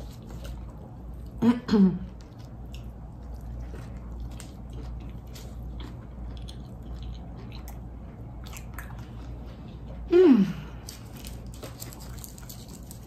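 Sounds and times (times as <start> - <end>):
person chewing food: 0.0 - 1.4, 2.1 - 10.1, 10.7 - 13.0.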